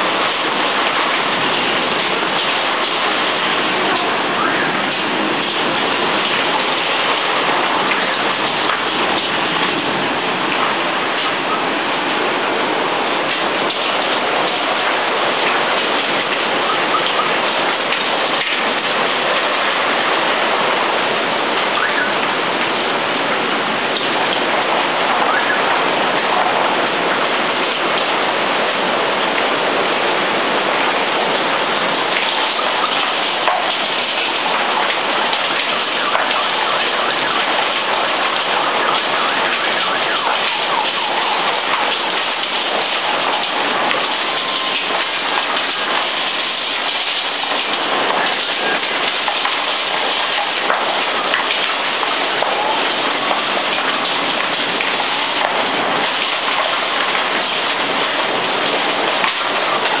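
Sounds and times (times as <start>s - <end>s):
torrential rain in windstorm: 0.0s - 60.0s.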